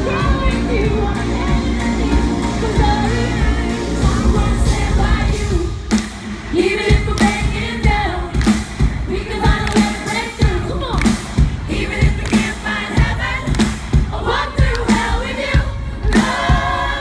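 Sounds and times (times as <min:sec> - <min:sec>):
woman singing: 0:00.0 - 0:05.9, 0:06.5 - 0:17.0
pop music with drum beat: 0:00.0 - 0:17.0.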